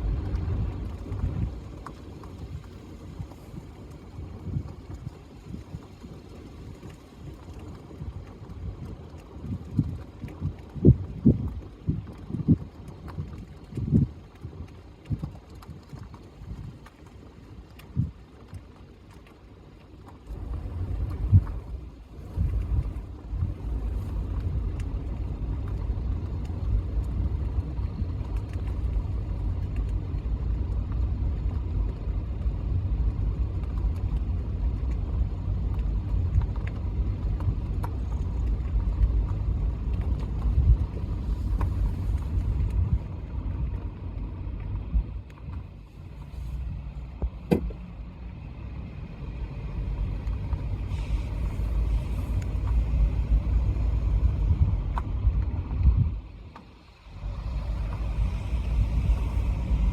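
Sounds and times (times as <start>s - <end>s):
low vehicle rumble: 0.0s - 59.9s.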